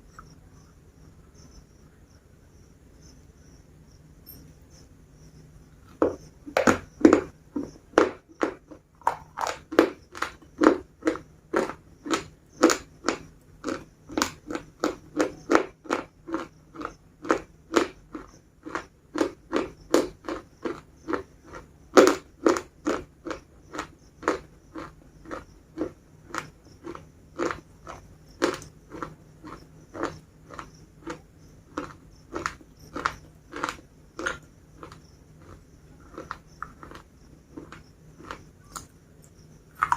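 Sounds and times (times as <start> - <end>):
biscuits being chewed: 5.8 - 39.9.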